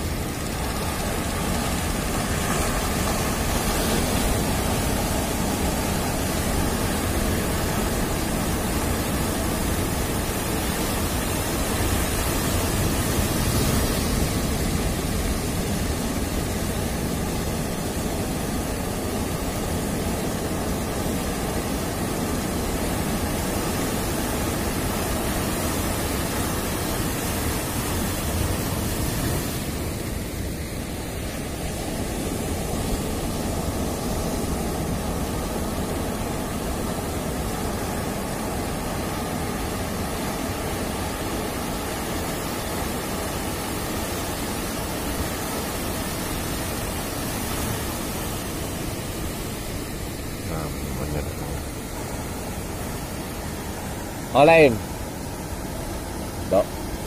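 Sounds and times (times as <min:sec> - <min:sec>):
surf breaking on beach: 0:00.0 - 0:57.0.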